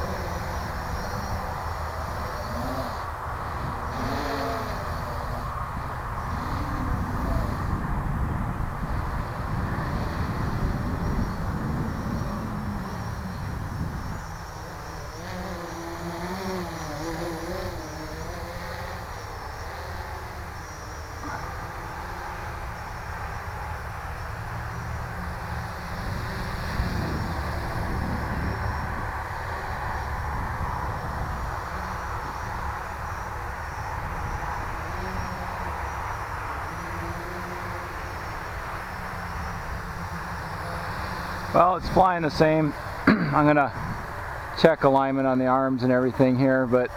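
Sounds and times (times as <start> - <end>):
drone propellers buzzing: 0.0 - 46.9
quadcopter whirring hum: 0.0 - 46.9.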